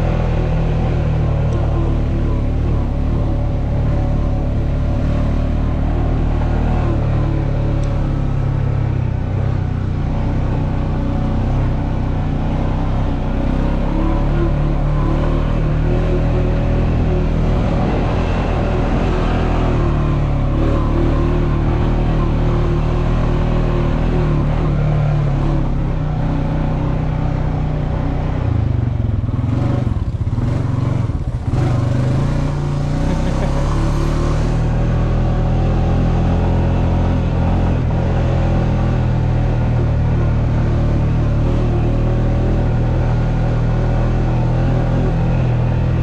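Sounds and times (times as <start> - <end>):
quad bike engine running: 0.0 - 46.0.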